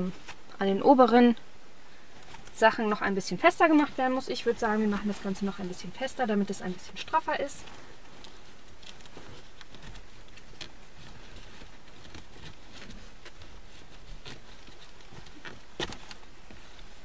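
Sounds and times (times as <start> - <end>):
seat cover rustles and clicks: 2.2 - 17.0.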